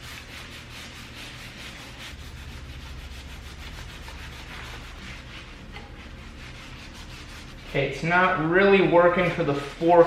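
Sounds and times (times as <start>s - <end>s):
hand scrubbing metal tubes: 0.0s - 10.0s.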